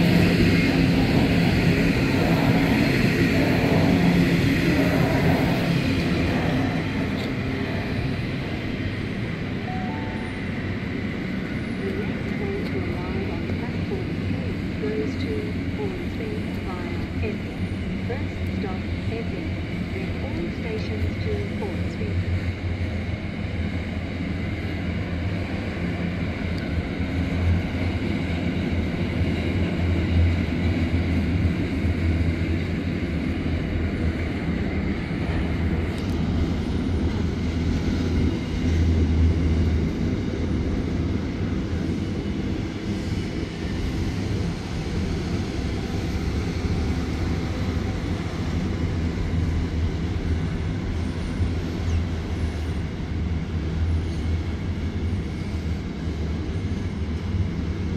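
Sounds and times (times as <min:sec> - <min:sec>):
steel wheels rumbling on rail: 0:00.0 - 0:57.9.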